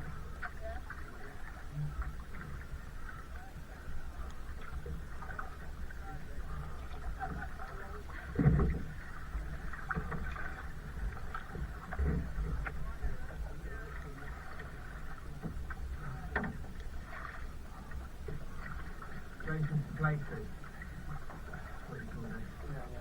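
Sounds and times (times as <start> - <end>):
paddle in water: 0.0 - 23.0.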